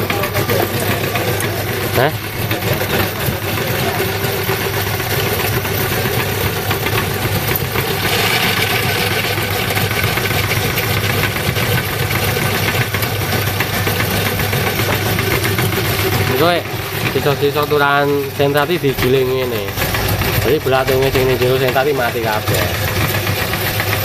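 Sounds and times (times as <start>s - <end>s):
meat grinder running: 0.0s - 24.0s.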